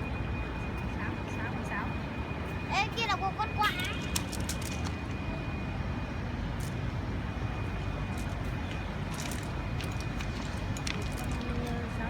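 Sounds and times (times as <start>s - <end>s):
faint steady high tone: 0.0s - 10.2s.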